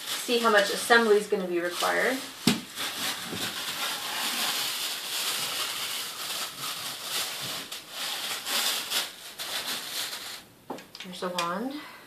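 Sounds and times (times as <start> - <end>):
packaging rustling: 0.0 - 10.4.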